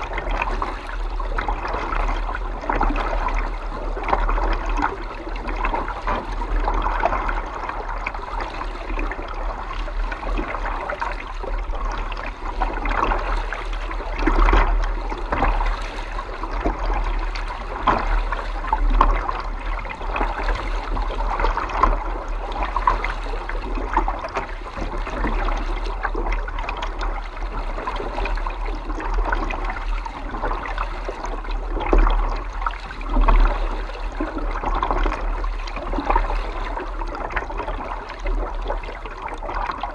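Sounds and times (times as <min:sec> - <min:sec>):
water lapping against kayak: 0:00.0 - 0:39.9.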